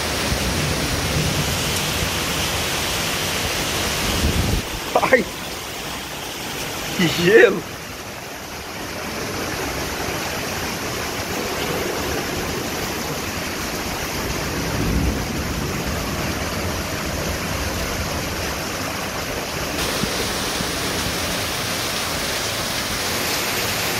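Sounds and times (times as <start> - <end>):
heavy rain on roof tiles: 0.0 - 23.9.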